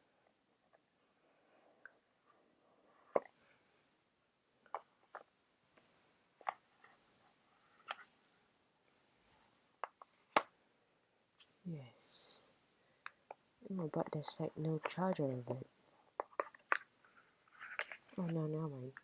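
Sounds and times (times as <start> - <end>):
soft packaging rustling: 1.7 - 11.9, 12.5 - 19.0.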